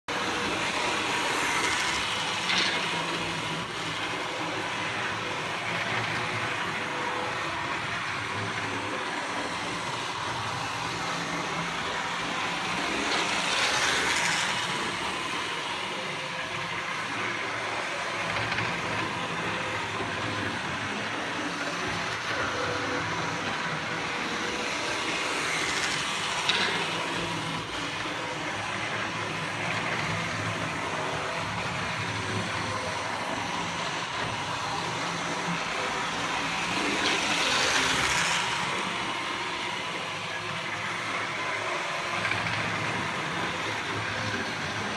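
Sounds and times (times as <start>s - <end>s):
model train running on track: 0.1s - 44.9s.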